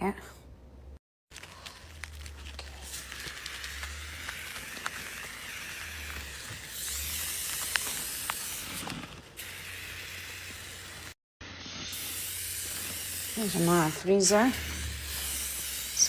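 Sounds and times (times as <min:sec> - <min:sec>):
spray can hissing: 0:01.4 - 0:16.0.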